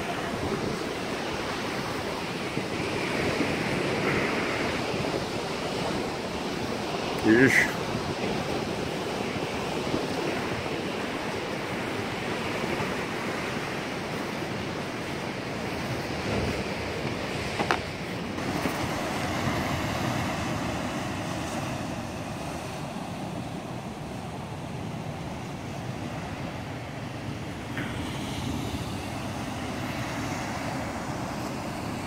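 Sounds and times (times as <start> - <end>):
sea surf: 0.0 - 32.0
wind: 0.0 - 32.0.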